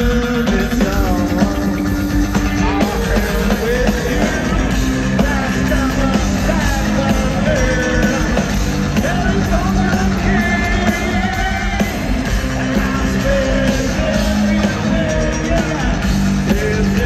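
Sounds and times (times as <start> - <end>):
live rock band playing: 0.0 - 17.0
man singing into microphone: 0.0 - 17.0.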